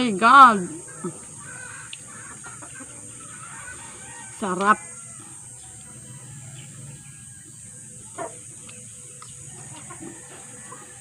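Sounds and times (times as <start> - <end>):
steady high hiss: 0.0 - 11.0
chickens clucking: 0.4 - 11.0.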